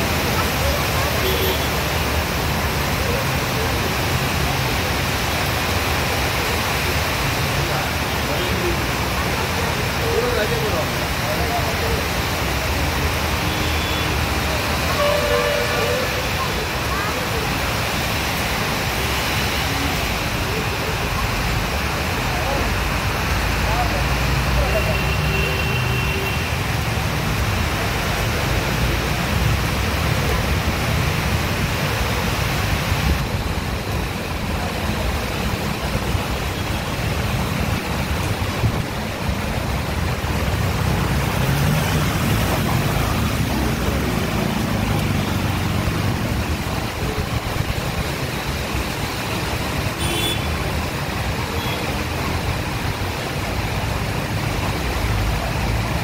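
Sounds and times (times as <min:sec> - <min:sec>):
heavy rain: 0:00.0 - 0:56.0
vehicles driving through water: 0:00.0 - 0:56.0.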